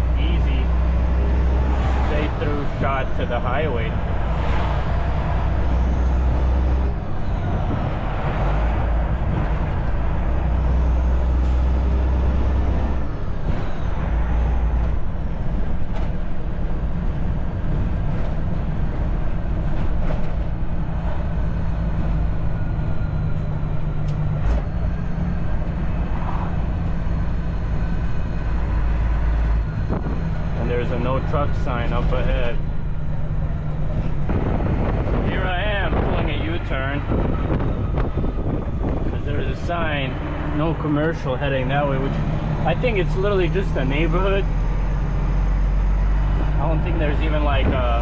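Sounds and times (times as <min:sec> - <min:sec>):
diesel truck engine drone: 0:00.0 - 0:48.0.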